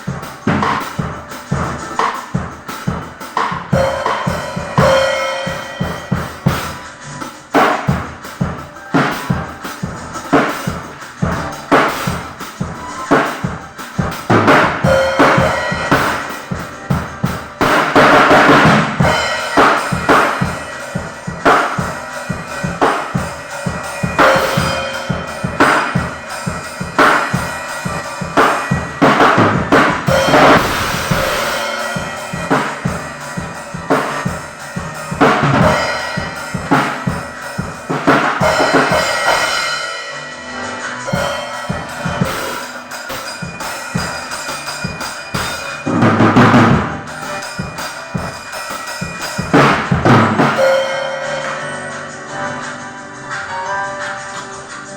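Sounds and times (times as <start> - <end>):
drum kit playing steady beat: 0.0 - 54.9.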